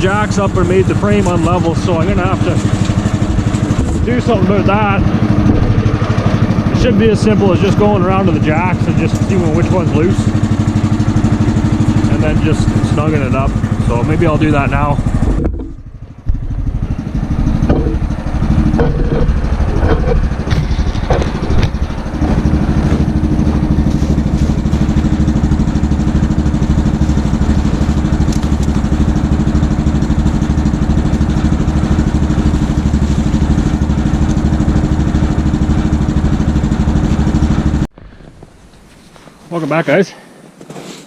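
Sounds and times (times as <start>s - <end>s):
engine knocks: 0.0s - 38.9s
gas engine running: 0.0s - 40.7s.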